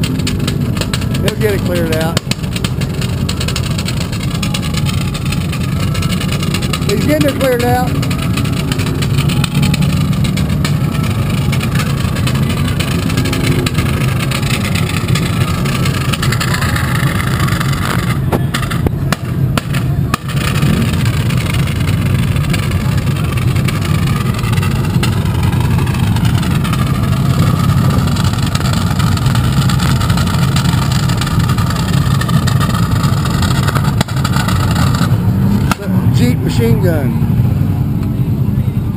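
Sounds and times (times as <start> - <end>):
engine revving: 0.0 - 38.4
engines idling: 0.0 - 38.9.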